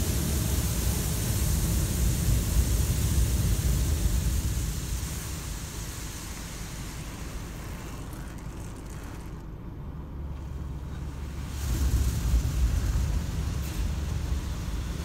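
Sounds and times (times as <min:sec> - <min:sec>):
water spray hissing on windshield: 0:00.0 - 0:09.4, 0:10.4 - 0:15.0
car wash machinery rumbling: 0:00.0 - 0:15.0.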